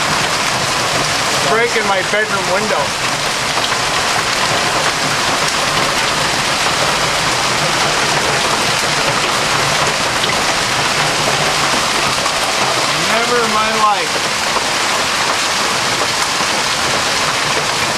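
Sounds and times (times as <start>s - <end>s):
hail and rain pelting down: 0.0s - 17.9s.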